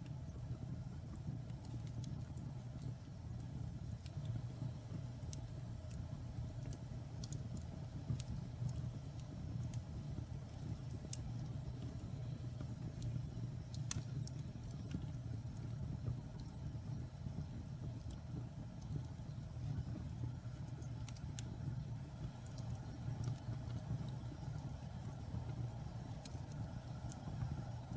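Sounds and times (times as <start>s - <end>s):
fire flames rumbling: 0.0s - 27.9s
wood crackling and popping: 0.0s - 27.9s.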